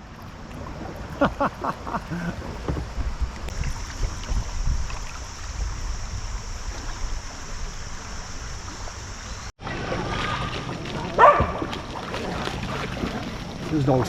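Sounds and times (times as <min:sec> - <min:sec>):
wind on microphone: 0:00.0 - 0:13.4
kayak paddling on river water: 0:00.0 - 0:14.0.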